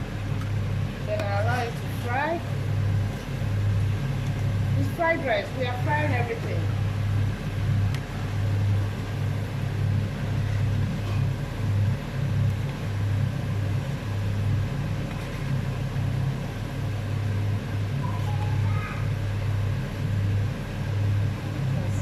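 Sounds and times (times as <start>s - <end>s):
low pulsing rumble: 0.0s - 22.0s.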